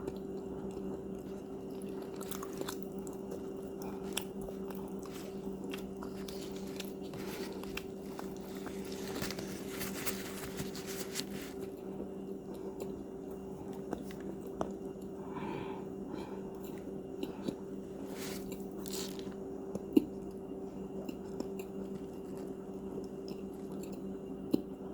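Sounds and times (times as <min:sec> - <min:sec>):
crunchy chewing of cookies: 0:00.0 - 0:24.9
low electrical hum: 0:00.0 - 0:24.9.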